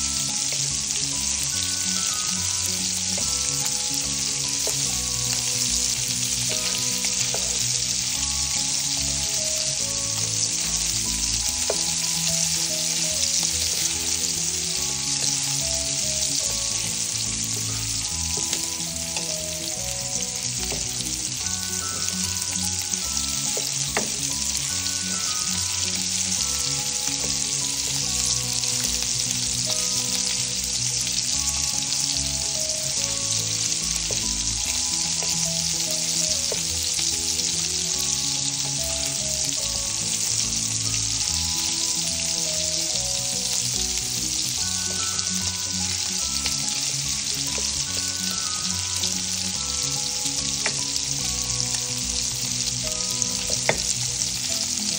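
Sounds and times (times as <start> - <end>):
sausages sizzling in a frying pan: 0.0 - 54.9.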